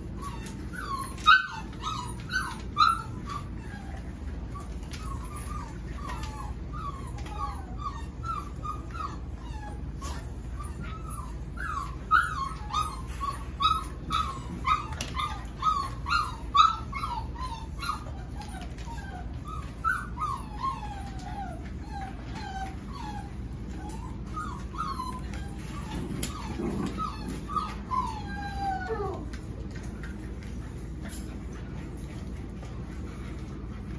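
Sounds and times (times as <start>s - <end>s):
puppies whimpering and yipping: 0.0s - 33.9s.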